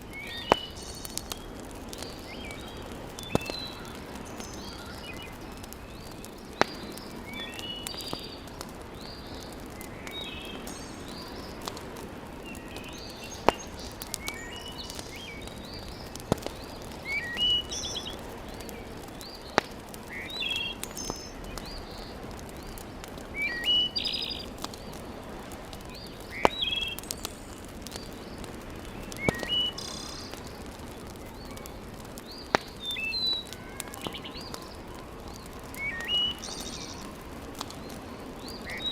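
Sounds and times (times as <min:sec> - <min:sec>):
wood fire crackling and popping: 0:00.0 - 0:38.9
small birds chirping: 0:00.1 - 0:38.9.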